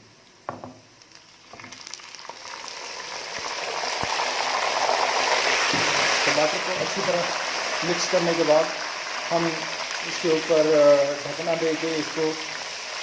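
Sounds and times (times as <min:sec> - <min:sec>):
tomatoes sizzling in hot oil: 0:00.4 - 0:13.0.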